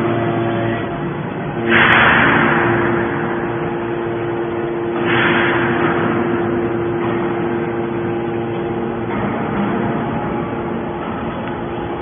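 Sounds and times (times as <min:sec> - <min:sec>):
hydraulic power unit hum: 0:00.0 - 0:12.0
loud rushing surge: 0:01.2 - 0:12.0.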